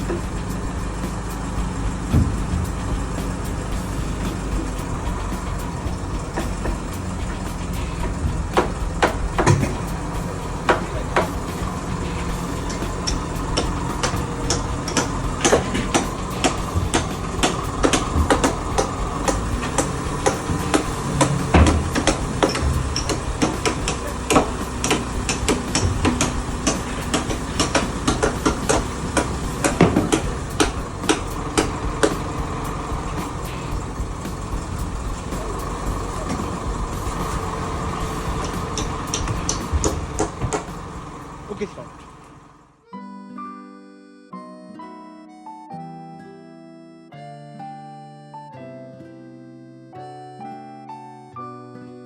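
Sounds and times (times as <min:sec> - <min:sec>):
hammer blows: 0:00.0 - 0:42.6
crane engine idling: 0:00.0 - 0:42.8.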